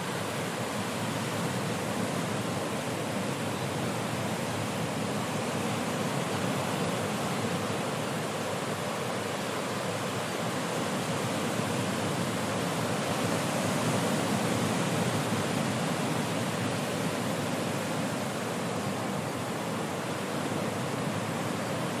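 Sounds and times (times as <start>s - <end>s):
ocean surf washing over rocks: 0.0s - 22.0s.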